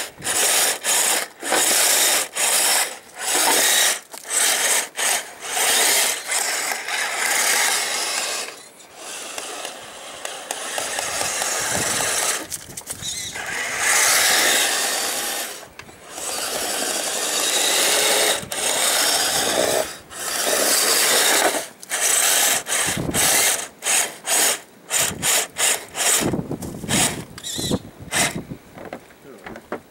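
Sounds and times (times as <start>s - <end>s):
electric motors under throttle: 0.0s - 28.5s
rattly mechanical drive noise: 0.0s - 29.9s.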